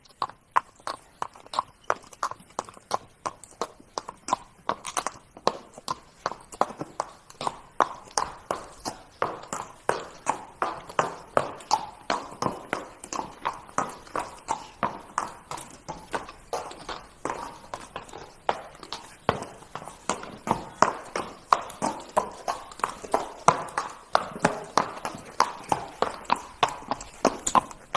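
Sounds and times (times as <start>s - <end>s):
horse hooves clip-clopping: 0.0s - 27.9s.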